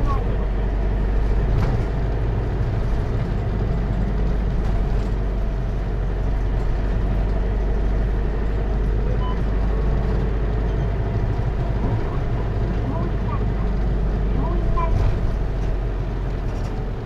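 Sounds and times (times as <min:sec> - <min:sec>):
diesel engine drone from inside: 0:00.0 - 0:17.0.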